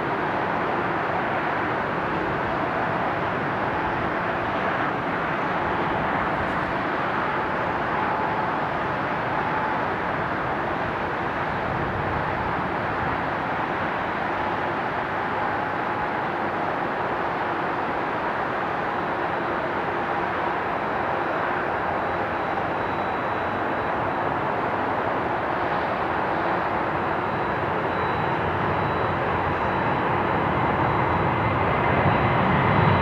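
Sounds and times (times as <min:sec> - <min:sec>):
distant jet engine rumble: 0:00.0 - 0:33.0.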